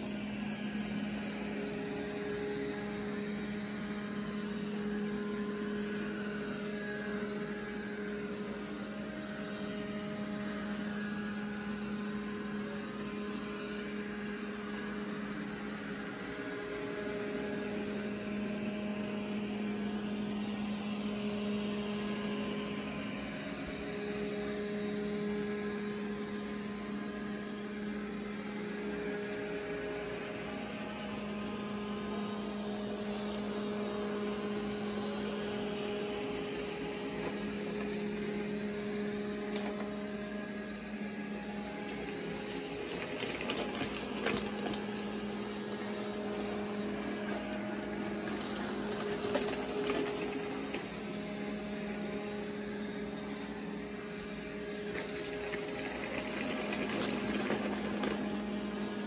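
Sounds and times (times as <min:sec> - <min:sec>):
robot vacuum humming: 0:00.0 - 0:59.0.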